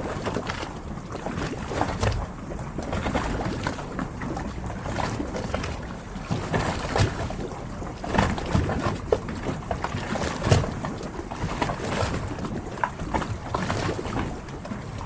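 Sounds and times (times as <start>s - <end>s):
steady wash of water: 0.0s - 15.0s
waves slapping against boat hulls: 0.0s - 15.0s.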